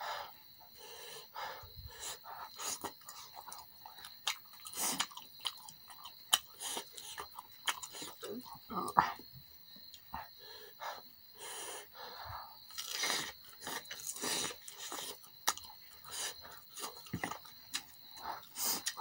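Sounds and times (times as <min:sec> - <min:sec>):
wet chewing: 0:01.6 - 0:11.1, 0:12.6 - 0:19.0.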